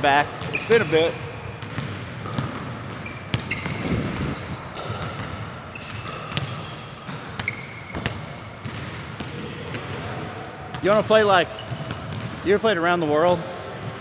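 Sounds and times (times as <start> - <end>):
sneakers squeaking on court: 0.0 - 12.6, 13.2 - 14.0
basketballs bouncing on hardwood: 0.2 - 1.0, 1.6 - 12.6.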